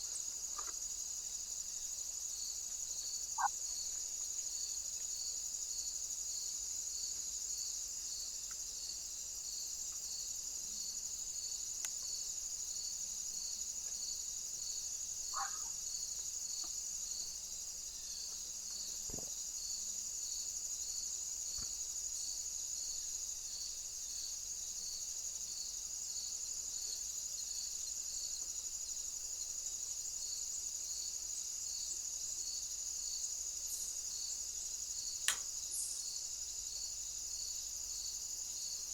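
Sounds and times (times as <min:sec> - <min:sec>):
insect chirping: 0:00.0 - 0:38.9
insect chorus trilling: 0:00.0 - 0:38.9.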